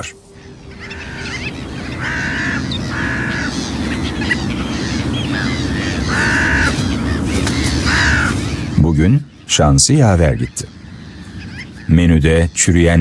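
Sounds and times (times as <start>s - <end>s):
harsh cawing bird calls: 0.0s - 13.0s.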